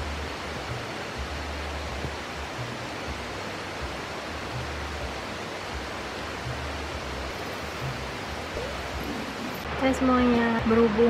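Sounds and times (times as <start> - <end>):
low rumbling: 0.0 - 10.8
steady rushing noise: 0.0 - 11.0.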